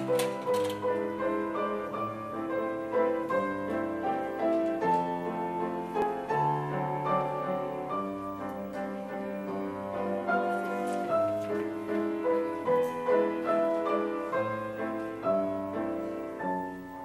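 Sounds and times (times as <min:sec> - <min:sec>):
slow gentle piano chords: 0:00.0 - 0:17.0.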